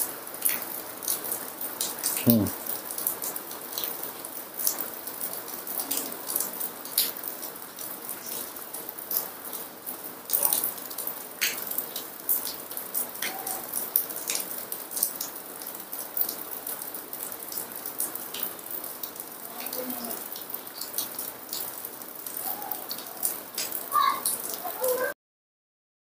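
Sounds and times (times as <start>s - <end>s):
heavy rain: 0.0s - 25.2s.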